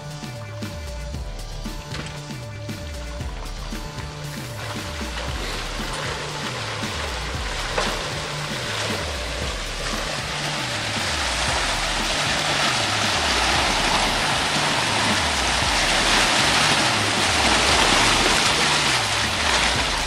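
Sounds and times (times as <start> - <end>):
muddy water churning and splashing: 0.0 - 20.0
music with stepping bass line: 0.0 - 20.0.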